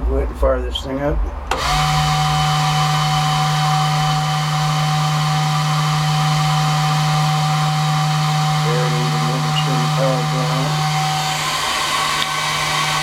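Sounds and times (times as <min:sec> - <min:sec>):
exhaust blower running: 0:01.5 - 0:13.0.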